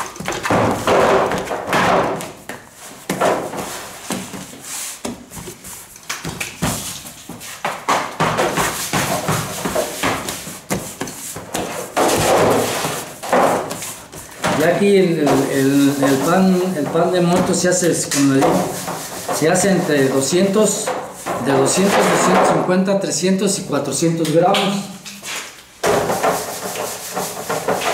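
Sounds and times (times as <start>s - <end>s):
dough thudding and rubbing: 0.0s - 22.3s, 25.8s - 27.9s.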